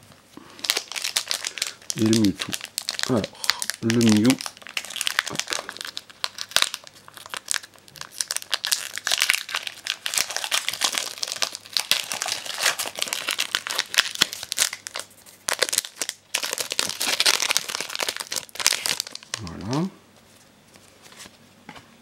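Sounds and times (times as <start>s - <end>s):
foil wrapper crinkling: 0.4s - 19.9s.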